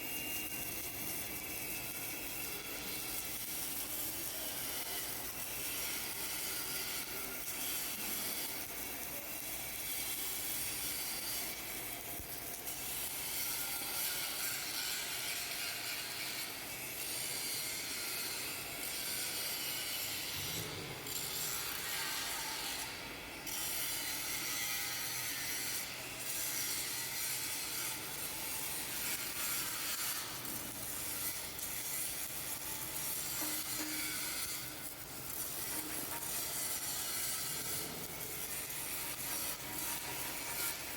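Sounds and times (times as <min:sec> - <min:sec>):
arc welding crackling hiss: 0:00.0 - 0:40.9.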